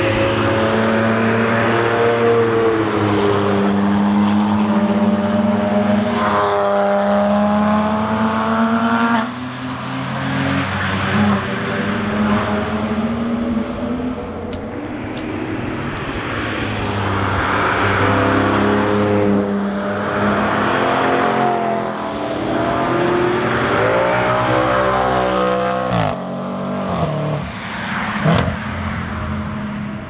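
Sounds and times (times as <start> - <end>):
race cars accelerating: 0.0 - 30.0.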